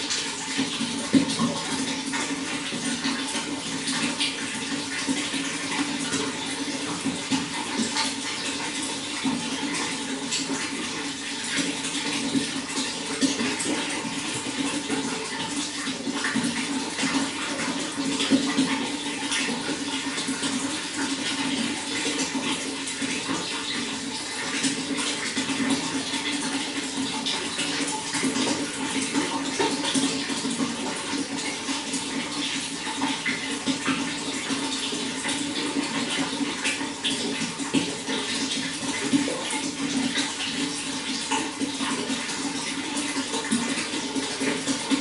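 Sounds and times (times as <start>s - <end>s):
running water splashing: 0.0s - 45.0s.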